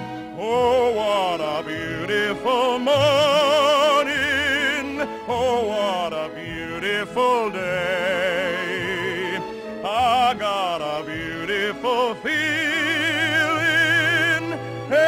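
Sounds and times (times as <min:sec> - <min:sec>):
man singing show tune: 0:00.2 - 0:15.0.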